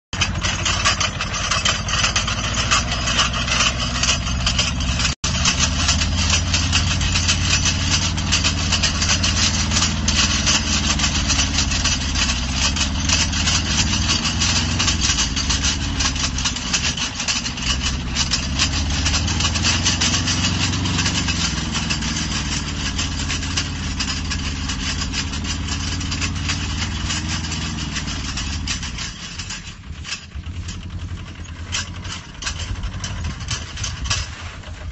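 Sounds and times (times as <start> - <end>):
quad bike engine running: 0.2 - 28.5.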